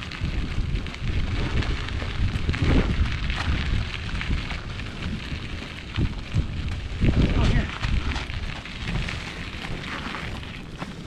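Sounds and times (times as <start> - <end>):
faint running footfalls: 0.0 - 11.0
wind buffeting the microphone: 0.0 - 11.0.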